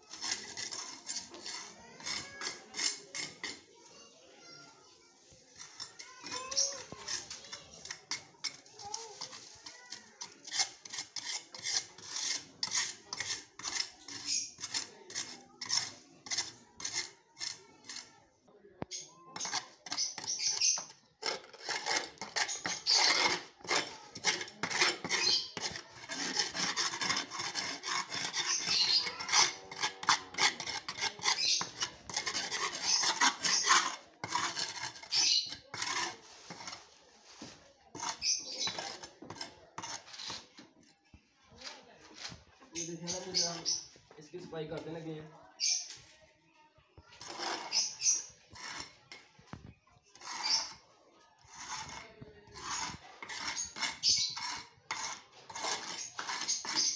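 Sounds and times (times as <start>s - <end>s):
hand scraper scraping floor: 0.0s - 3.7s, 5.2s - 18.1s, 18.9s - 40.7s, 42.0s - 43.8s, 47.2s - 50.8s, 51.4s - 56.9s.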